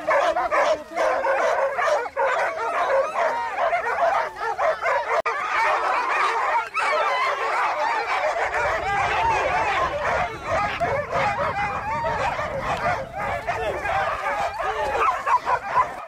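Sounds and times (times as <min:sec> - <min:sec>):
dogs yelping and whining: 0:00.0 - 0:15.9.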